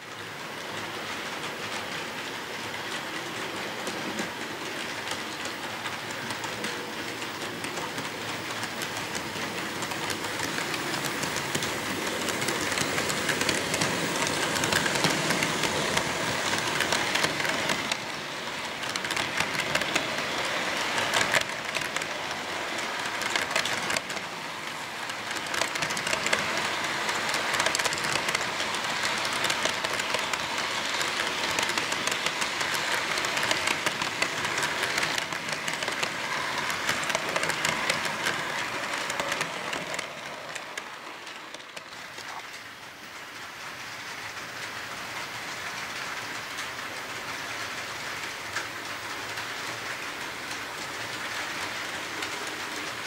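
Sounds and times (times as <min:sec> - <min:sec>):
model train wheels clicking on track: 0:00.0 - 0:53.0.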